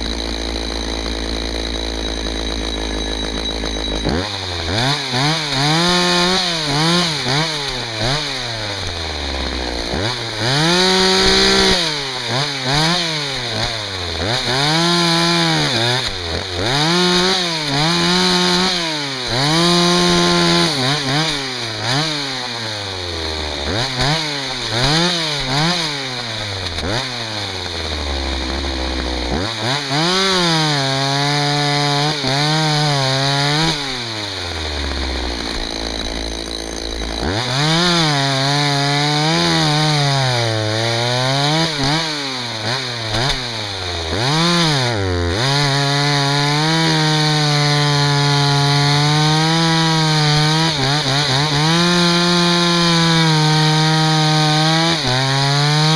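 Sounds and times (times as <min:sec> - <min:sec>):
chainsaw cutting firewood: 0:00.0 - 0:55.9.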